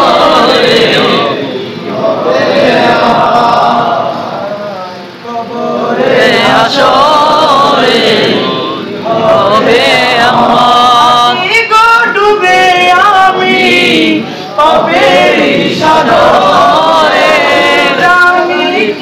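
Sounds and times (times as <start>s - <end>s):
men singing devotional chant: 0.0s - 19.0s.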